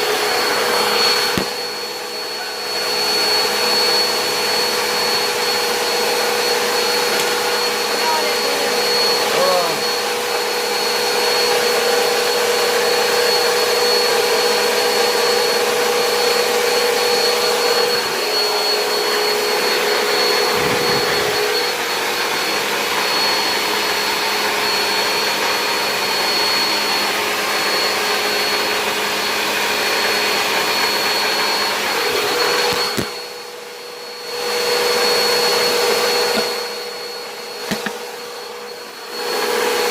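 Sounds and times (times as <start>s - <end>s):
electric motor and fan whirring: 0.0s - 39.9s.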